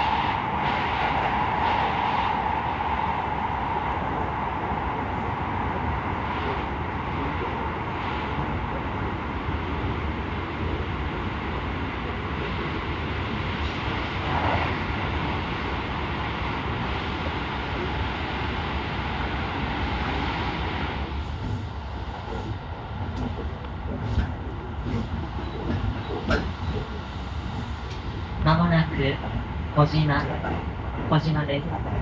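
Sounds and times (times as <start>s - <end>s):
train running noise inside carriage: 0.0s - 32.0s.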